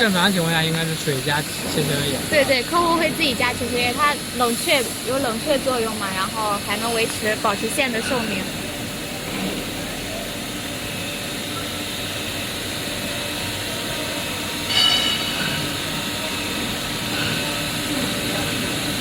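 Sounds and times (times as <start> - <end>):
flowing water: 0.0 - 19.0.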